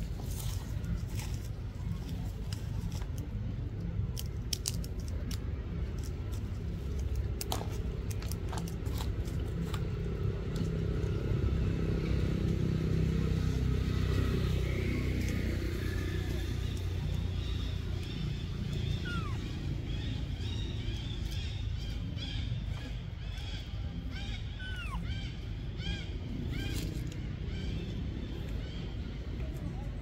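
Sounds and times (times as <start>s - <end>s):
dry leaves crackling: 0.0s - 28.8s
passing vehicle engine hum: 5.4s - 30.0s.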